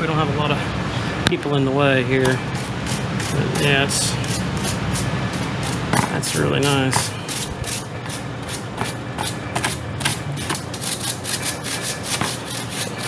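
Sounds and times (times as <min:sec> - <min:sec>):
brush scrubbing metal coil fins: 0:02.3 - 0:13.0.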